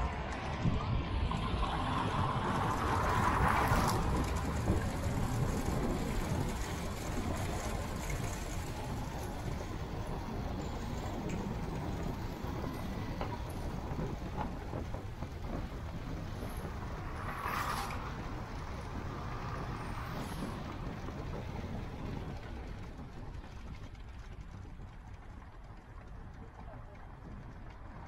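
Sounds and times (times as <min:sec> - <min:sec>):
car driving rumble: 0:00.0 - 0:28.0
road and wind noise: 0:00.0 - 0:28.0.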